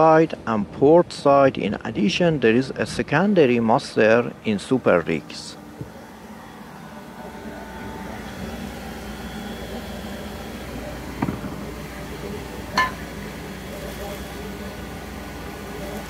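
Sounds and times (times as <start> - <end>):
low machinery drone: 0.0 - 16.0.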